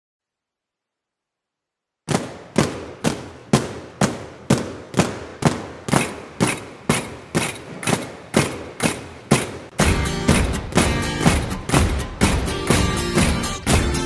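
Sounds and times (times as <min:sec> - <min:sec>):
rhythmic percussion hits: 0:02.1 - 0:14.0.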